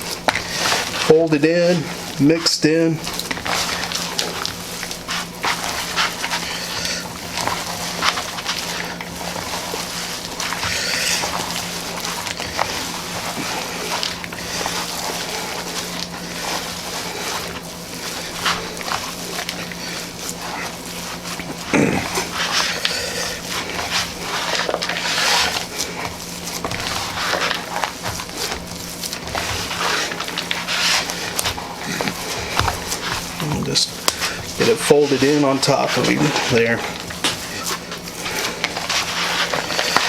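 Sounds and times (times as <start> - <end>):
steady low hum: 0.0 - 40.0
wet squishing of meat: 0.0 - 40.0.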